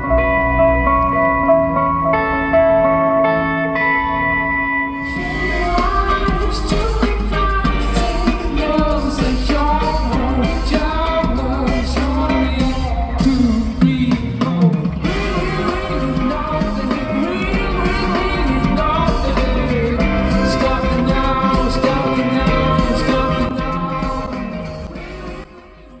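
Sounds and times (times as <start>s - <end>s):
electric guitar: 0.0s - 26.0s
live rock band: 0.0s - 26.0s
person singing: 5.0s - 26.0s.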